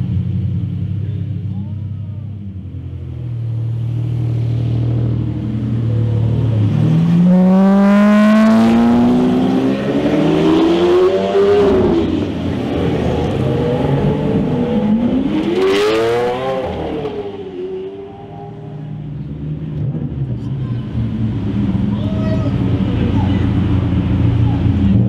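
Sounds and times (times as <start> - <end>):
car engine accelerating hard: 2.3 - 25.0.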